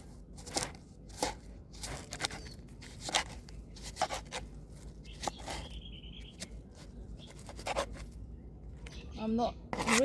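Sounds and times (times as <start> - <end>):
melon flesh tearing: 0.0 - 8.2
chickens pecking melon: 0.0 - 8.3.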